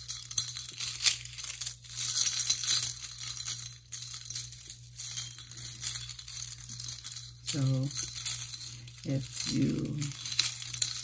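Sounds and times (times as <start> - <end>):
metal chains jingling: 0.0 - 11.0.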